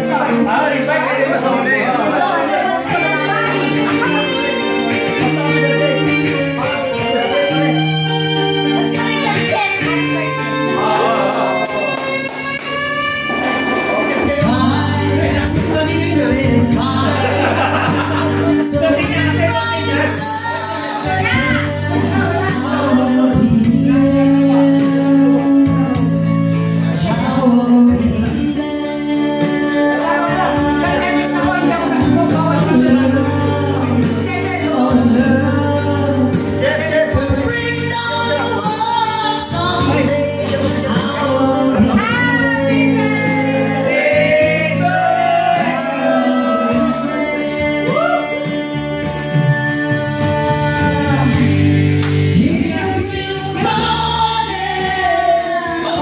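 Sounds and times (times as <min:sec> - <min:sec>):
backing track music: 0:00.0 - 0:56.0
woman singing karaoke: 0:00.0 - 0:56.0.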